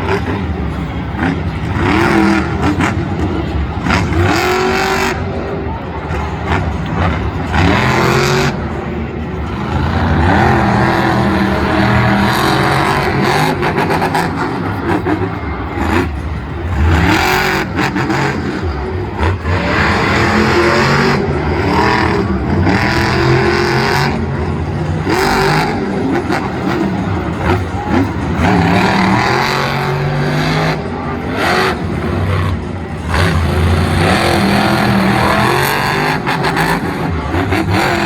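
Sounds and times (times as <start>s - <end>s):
truck engine revving: 0.0s - 38.0s.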